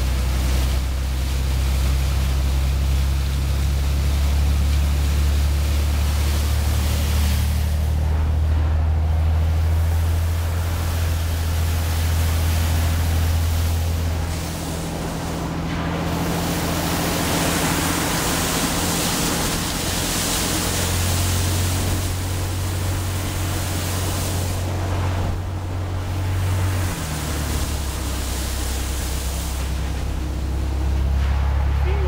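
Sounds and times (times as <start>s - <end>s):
low engine drone: 0.0s - 32.0s
water spraying and rushing: 0.0s - 32.0s.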